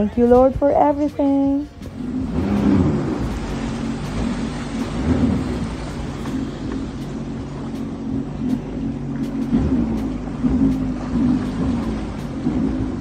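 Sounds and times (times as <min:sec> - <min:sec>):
personal watercraft engine running: 0:00.0 - 0:13.0
rough rumbling noise: 0:00.0 - 0:13.0.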